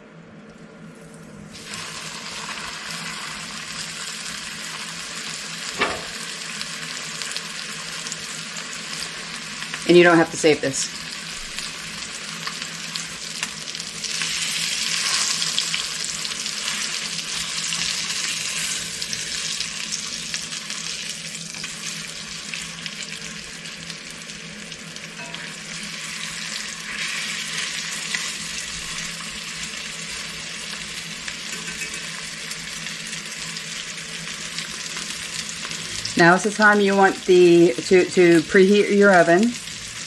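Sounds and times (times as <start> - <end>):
meat sizzling in hot oil: 1.1 - 40.0.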